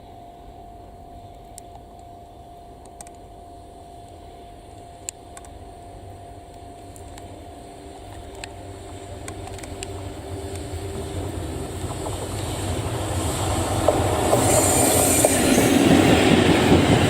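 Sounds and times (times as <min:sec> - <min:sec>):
distant train rumble and hiss: 0:00.0 - 0:17.0.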